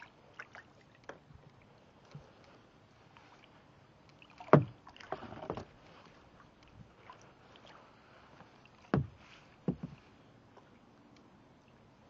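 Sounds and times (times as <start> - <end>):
paddle splashing: 0.0 - 10.9.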